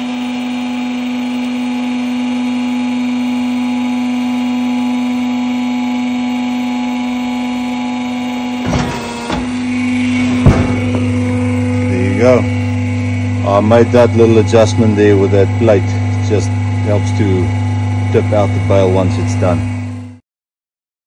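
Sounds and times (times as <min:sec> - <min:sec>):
electric wool press humming: 0:00.0 - 0:20.2.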